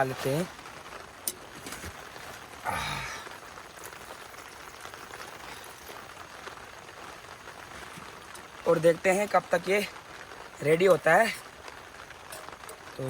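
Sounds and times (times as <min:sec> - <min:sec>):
rain hiss: 0:00.0 - 0:13.0.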